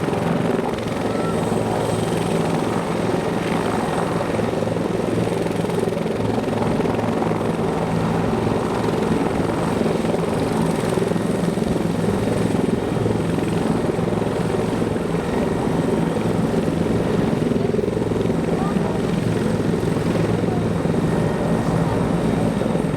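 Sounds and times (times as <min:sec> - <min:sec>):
helicopter engine and rotor drone: 0:00.0 - 0:22.9.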